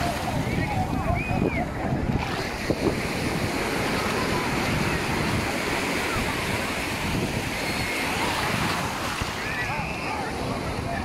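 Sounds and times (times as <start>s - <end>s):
faint beach crowd voices: 0.0s - 11.0s
small waves breaking on sand: 0.0s - 11.0s.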